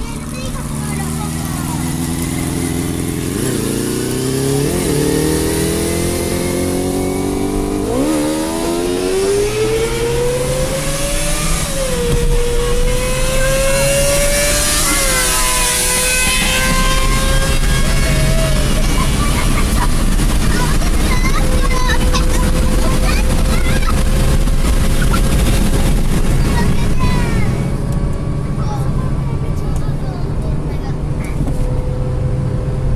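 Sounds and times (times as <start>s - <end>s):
low engine hum: 0.0s - 32.9s
motorcycle engine accelerating: 0.0s - 32.9s.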